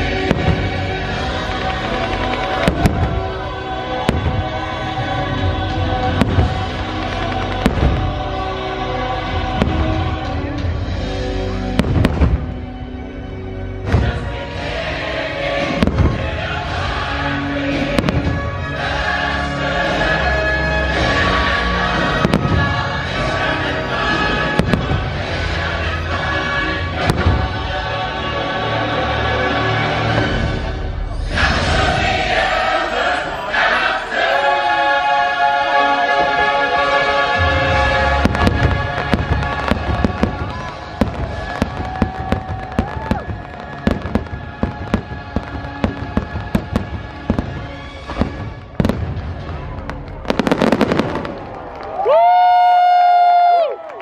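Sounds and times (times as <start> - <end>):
fireworks bangs: 0.0 - 12.8, 13.8 - 19.2, 20.8 - 27.9, 30.0 - 52.3
show music: 0.0 - 53.7.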